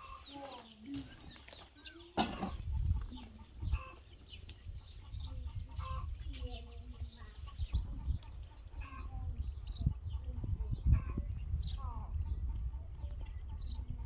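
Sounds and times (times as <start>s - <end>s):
hens clucking: 0.0s - 14.0s
small birds chirping: 0.0s - 14.0s.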